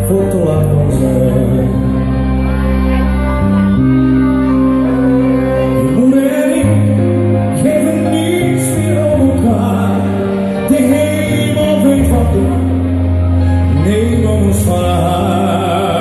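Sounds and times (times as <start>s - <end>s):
man singing into a microphone: 0.0s - 3.4s, 4.2s - 16.0s
music with sustained chords: 0.0s - 16.0s.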